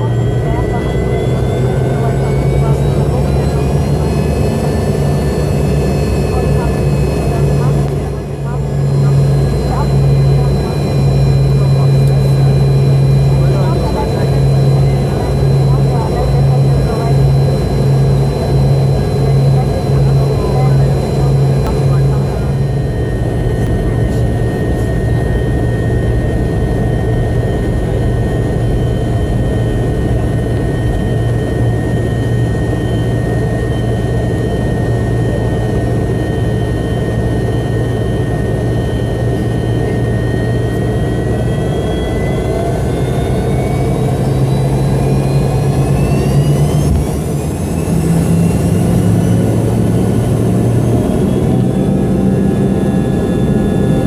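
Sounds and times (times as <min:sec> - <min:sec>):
jet engines whining in cabin: 0:00.0 - 0:54.0.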